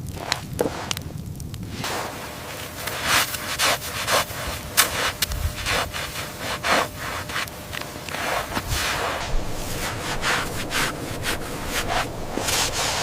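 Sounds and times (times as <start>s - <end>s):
rough scraping strokes: 1.7s - 13.0s.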